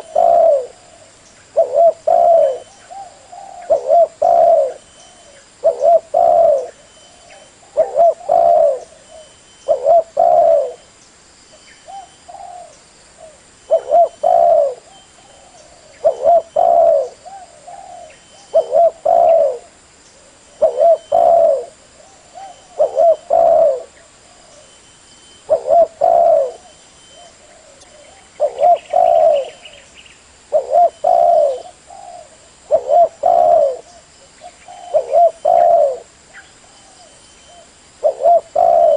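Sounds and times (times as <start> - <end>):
dove cooing: 0.0 - 10.9, 11.8 - 24.8, 25.4 - 29.9, 30.5 - 38.9.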